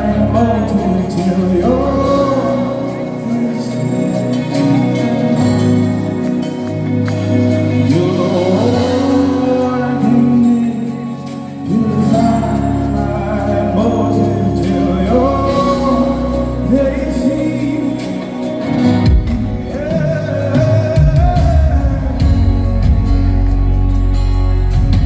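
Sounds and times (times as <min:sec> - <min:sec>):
person singing gospel: 0:00.0 - 0:05.2, 0:07.5 - 0:18.8, 0:19.5 - 0:23.4
bass: 0:00.0 - 0:25.0
keyboard chords: 0:00.0 - 0:25.0.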